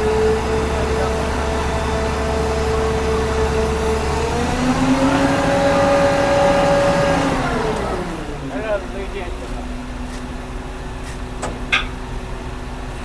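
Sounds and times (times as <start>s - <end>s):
heavy diesel engine revving: 0.0s - 13.0s.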